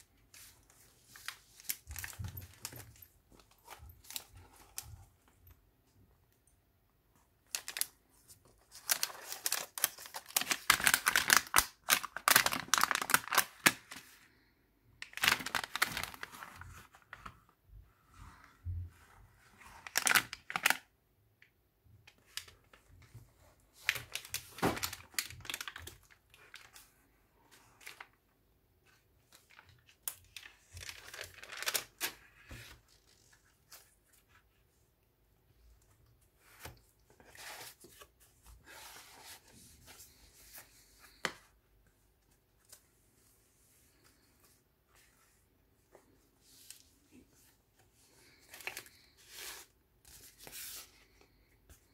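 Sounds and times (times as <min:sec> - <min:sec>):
thick pages rustling and crinkling: 0:00.0 - 0:05.4, 0:07.5 - 0:20.8, 0:22.1 - 0:28.2, 0:28.8 - 0:34.8, 0:35.6 - 0:51.9.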